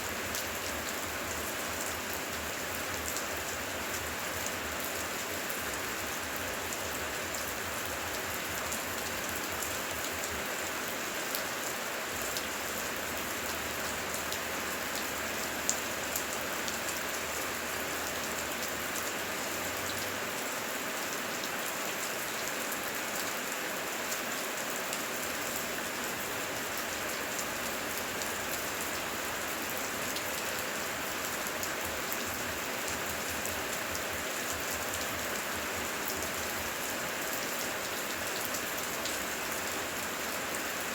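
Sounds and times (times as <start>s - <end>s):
heavy rain falling: 0.1s - 40.9s
raindrops ticking on surfaces: 0.1s - 40.9s.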